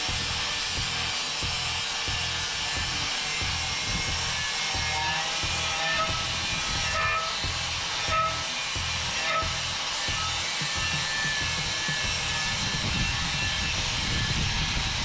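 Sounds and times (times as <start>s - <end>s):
rasping and scraping on steel: 0.0s - 15.0s.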